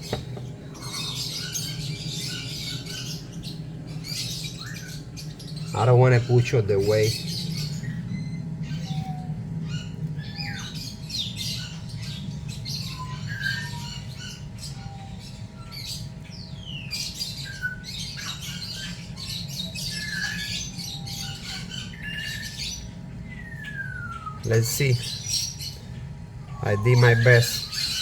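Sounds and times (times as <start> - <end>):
bird squawks and chirps: 0.0 - 28.0
steady low hum: 0.0 - 28.0.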